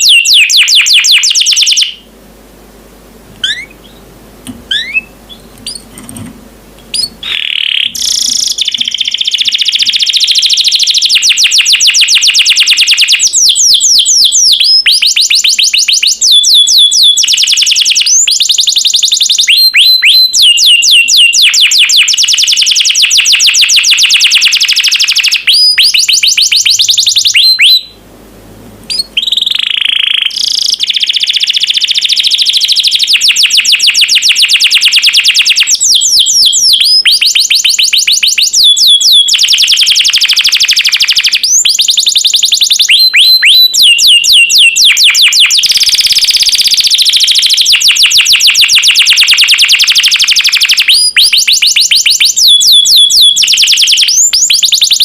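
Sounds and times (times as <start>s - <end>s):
canary held whistle: 0.0s - 2.0s, 3.4s - 4.0s, 4.7s - 5.9s, 6.9s - 27.9s, 28.9s - 55.0s
canary singing trills: 0.0s - 2.1s, 3.4s - 6.1s, 6.8s - 28.0s, 28.9s - 55.0s.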